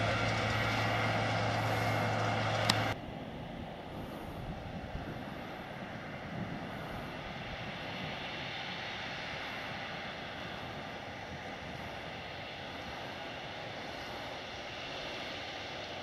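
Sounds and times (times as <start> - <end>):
tractor engine drone: 0.0 - 16.0.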